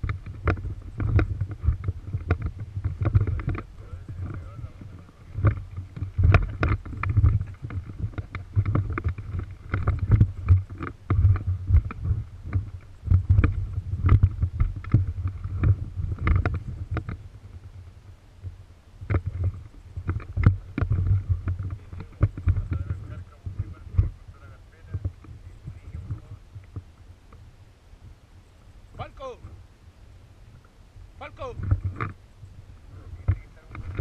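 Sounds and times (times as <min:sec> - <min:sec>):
low rumbling and knocks on microphone: 0:00.0 - 0:28.2, 0:31.2 - 0:34.0.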